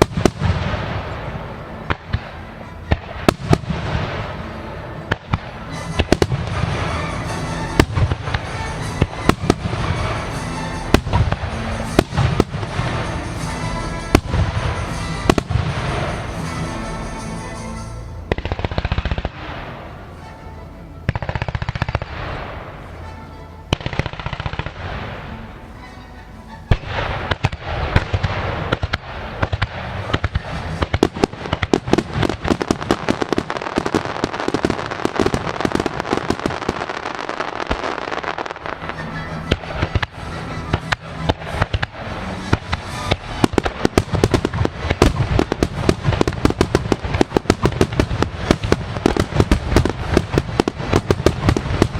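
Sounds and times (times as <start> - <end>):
fireworks bursting and crackling: 0.0 - 26.0, 26.7 - 51.9
music: 0.0 - 51.9.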